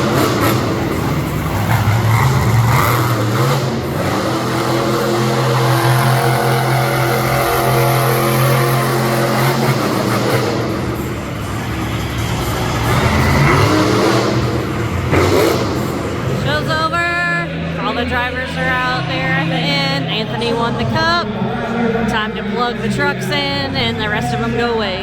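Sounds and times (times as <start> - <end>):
loud truck engine running: 0.0 - 25.0.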